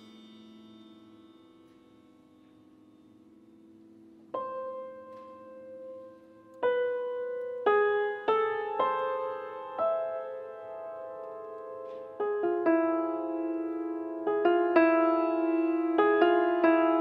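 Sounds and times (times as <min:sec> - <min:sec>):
grand piano notes: 0:00.0 - 0:17.0.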